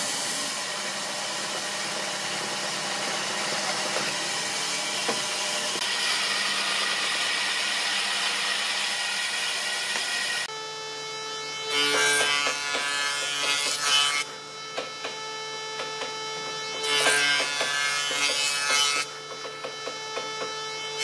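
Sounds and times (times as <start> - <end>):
band saw running: 0.0 - 21.0
loud rasping planing cut: 0.0 - 21.0.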